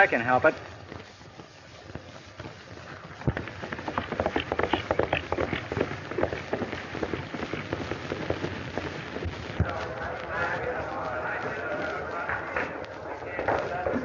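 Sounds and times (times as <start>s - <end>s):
faint film soundtrack hiss: 0.0s - 14.0s
galloping horse hooves: 0.0s - 14.0s.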